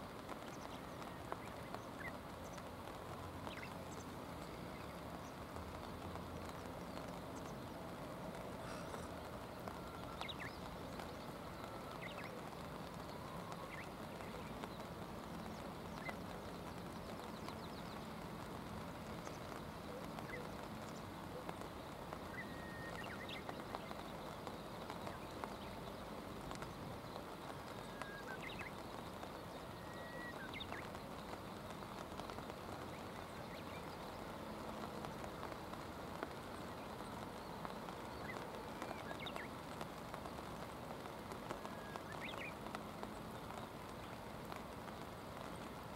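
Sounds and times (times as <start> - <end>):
flowing river water: 0.0 - 45.9
light rain: 0.0 - 45.9.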